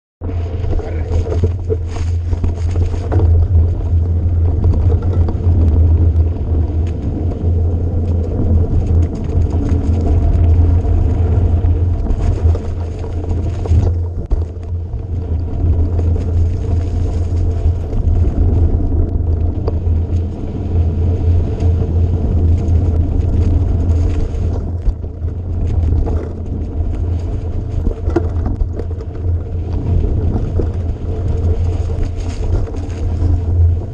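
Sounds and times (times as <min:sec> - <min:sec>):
rough noise: 0:00.2 - 0:33.9
vehicle rumbling: 0:00.2 - 0:33.9.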